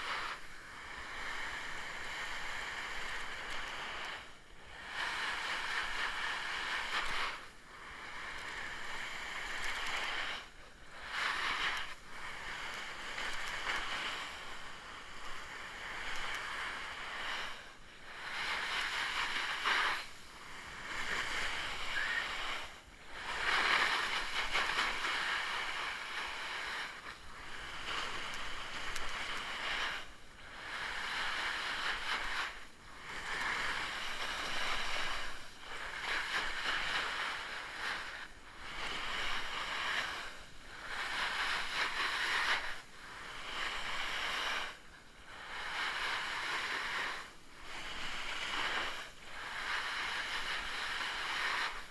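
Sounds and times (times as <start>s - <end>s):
snowboard scraping over snow: 0.0s - 51.9s.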